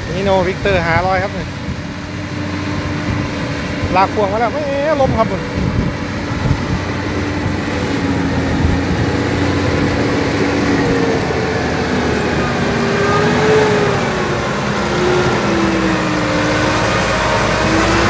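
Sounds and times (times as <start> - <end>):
truck diesel engine labouring: 0.0 - 18.0.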